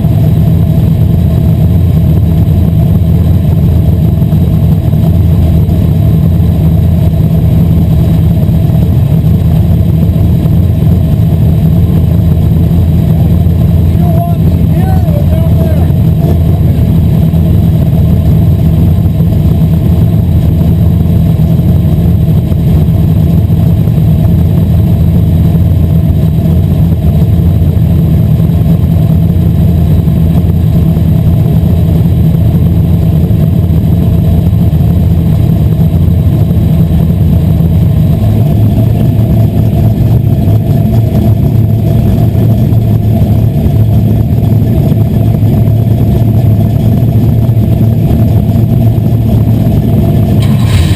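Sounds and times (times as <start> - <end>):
race car engine running hard: 0.0 - 50.9.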